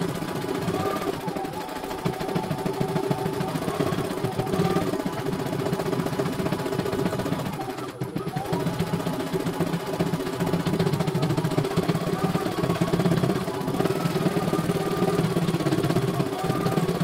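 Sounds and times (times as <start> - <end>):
embroidery machine needle clatter: 0.0 - 17.0
machine whine: 0.0 - 17.0.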